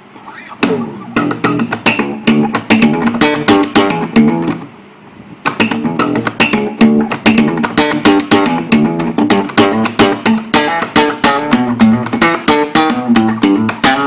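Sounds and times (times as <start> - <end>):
acoustic guitar bass riff: 0.3 - 14.0.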